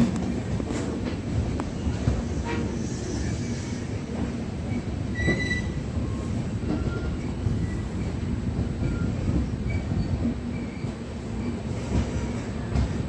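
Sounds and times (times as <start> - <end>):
train wheels rumbling on track: 0.0 - 13.0
train wheel squeal: 2.0 - 13.0.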